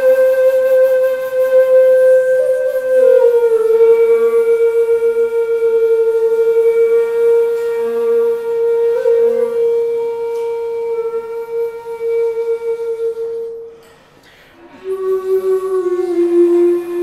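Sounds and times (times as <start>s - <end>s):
bamboo flutes playing held notes: 0.0s - 13.8s, 14.7s - 17.0s.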